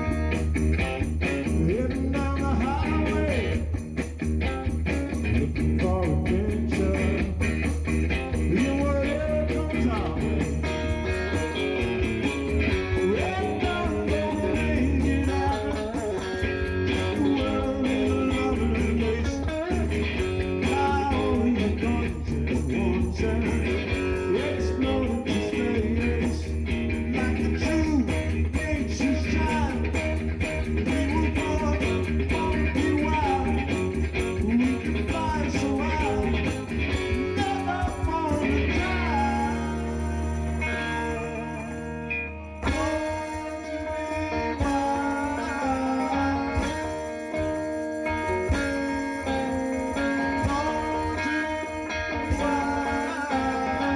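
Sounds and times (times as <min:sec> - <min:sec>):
bass playing: 0:00.0 - 0:45.4
electric guitar playing: 0:00.0 - 0:53.9.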